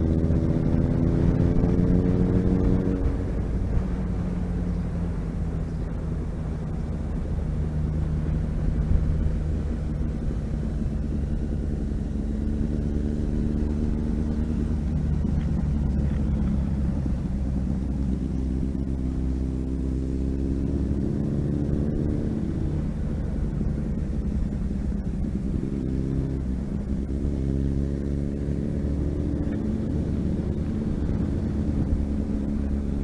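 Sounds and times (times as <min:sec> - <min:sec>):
low rumble: 0:00.0 - 0:33.0
motorcycle engine running: 0:00.0 - 0:33.0.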